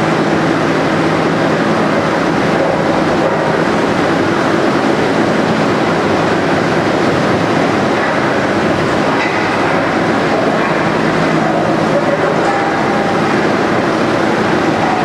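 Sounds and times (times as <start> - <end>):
wind and rain battering building: 0.0 - 15.0.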